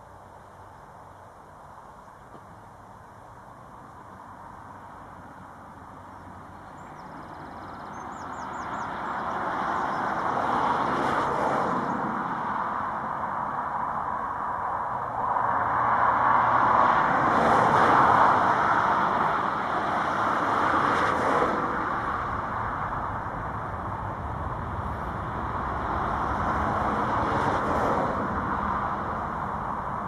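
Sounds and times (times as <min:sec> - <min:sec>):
distant jet engines rushing: 0:01.4 - 0:30.0.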